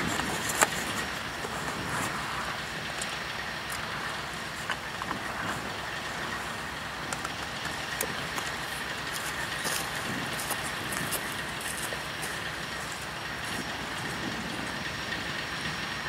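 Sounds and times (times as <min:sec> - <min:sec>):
distant diesel locomotive idling: 0:00.0 - 0:16.0.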